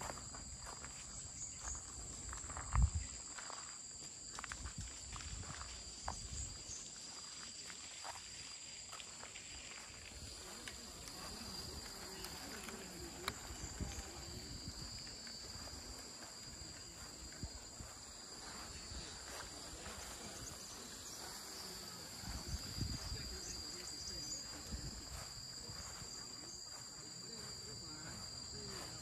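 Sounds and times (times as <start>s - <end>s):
insects droning: 0.0s - 29.0s
soft footsteps: 0.0s - 29.0s.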